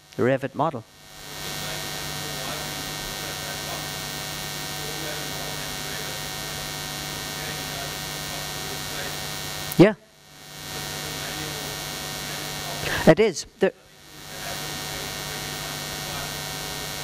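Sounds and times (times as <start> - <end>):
electrical mains hum: 0.0 - 17.0
sound system hiss: 0.0 - 17.0.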